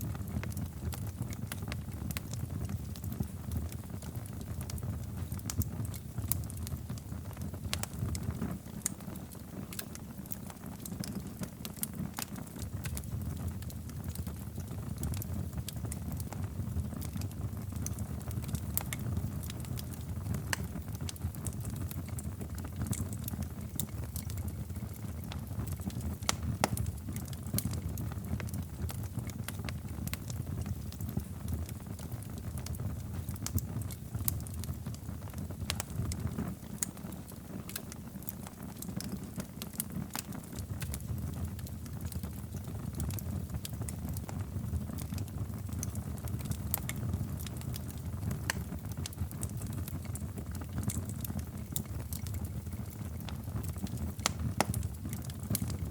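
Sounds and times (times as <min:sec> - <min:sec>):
low rumble of burning logs: 0:00.0 - 0:55.9
wood fire crackling: 0:00.0 - 0:55.9.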